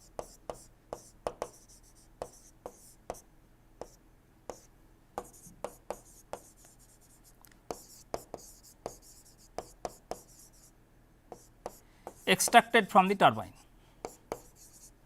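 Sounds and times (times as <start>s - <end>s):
pen scratching: 0.0s - 3.2s, 3.8s - 10.7s, 11.3s - 12.5s, 14.1s - 14.9s.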